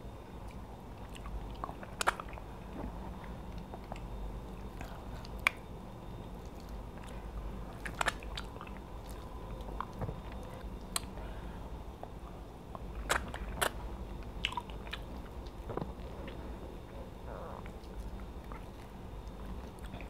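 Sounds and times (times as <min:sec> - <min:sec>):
people chewing and biting: 0:00.4 - 0:20.0.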